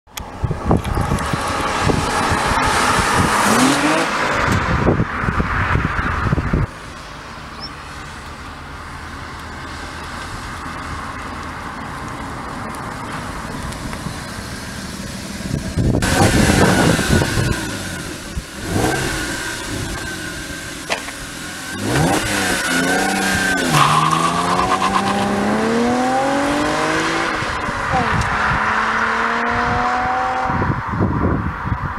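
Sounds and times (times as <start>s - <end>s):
car engine accelerating: 0.2s - 31.2s.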